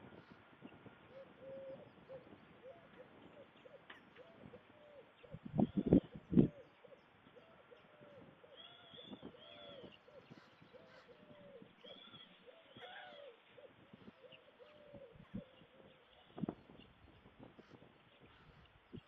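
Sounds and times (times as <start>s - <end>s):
distant bird calls: 0.0s - 19.0s.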